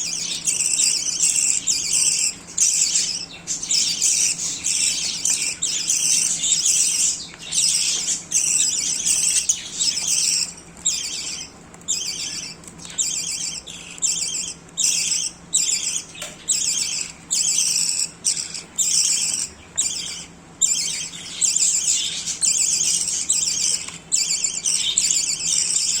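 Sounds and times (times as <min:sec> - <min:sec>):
budgerigars chirping and chattering: 0:00.0 - 0:26.0.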